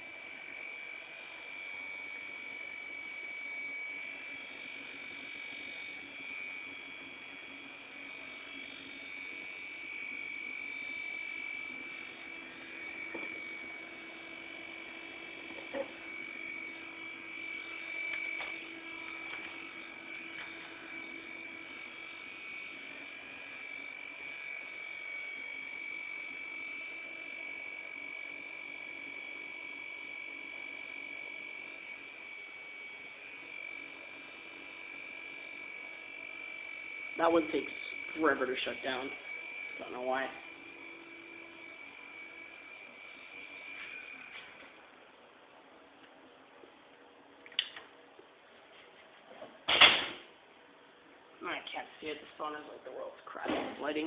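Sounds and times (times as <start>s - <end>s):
computer fans whining: 0.0s - 54.0s.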